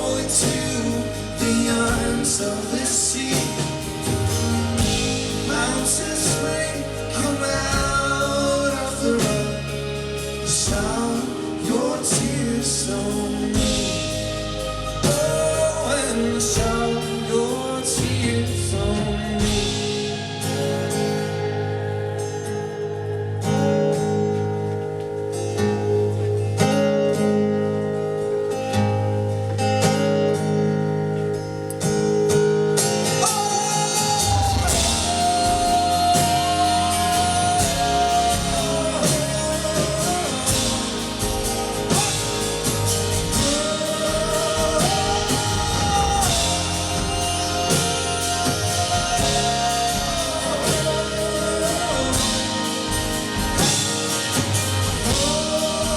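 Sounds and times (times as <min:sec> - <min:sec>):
bass and drums: 0:00.0 - 0:27.0, 0:27.8 - 0:55.9
held melody line: 0:00.0 - 0:55.9
plucked guitar pattern: 0:00.0 - 0:55.9.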